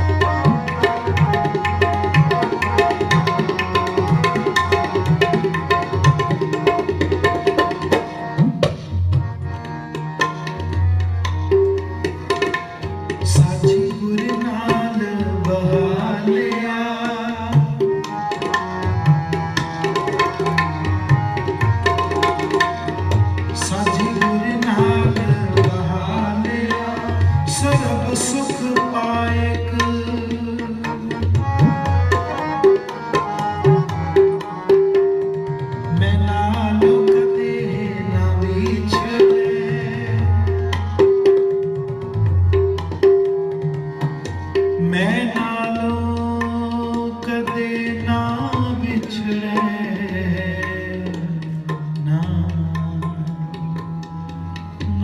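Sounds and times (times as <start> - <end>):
tabla playing: 0.0 - 55.0.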